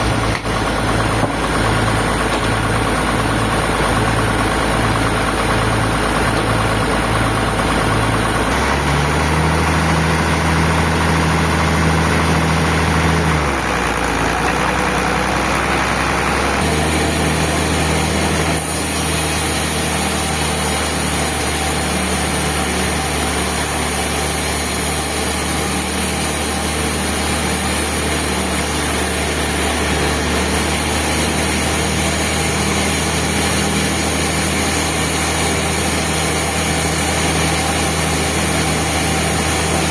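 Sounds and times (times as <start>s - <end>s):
sawmill machinery engine running: 0.0s - 39.9s.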